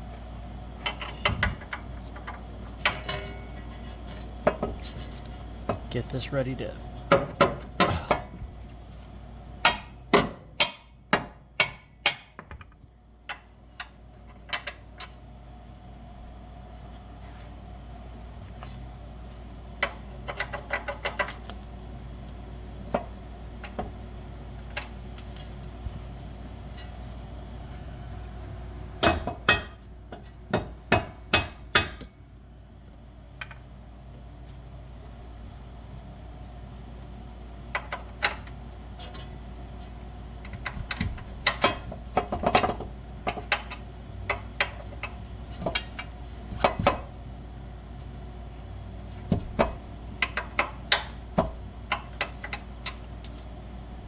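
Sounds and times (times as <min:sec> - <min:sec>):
shop fan humming: 0:00.0 - 0:54.0.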